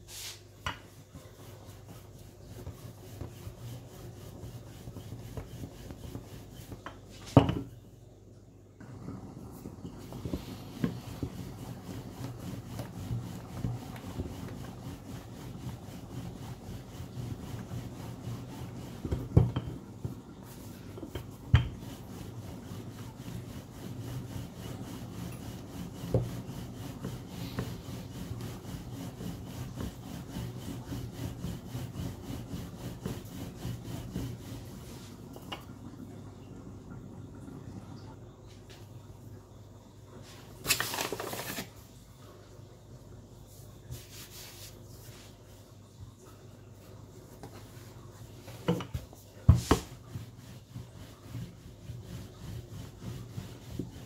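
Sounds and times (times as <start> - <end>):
rolling pin rubbing on dough: 0.0 - 7.8, 8.9 - 35.5, 43.4 - 54.0.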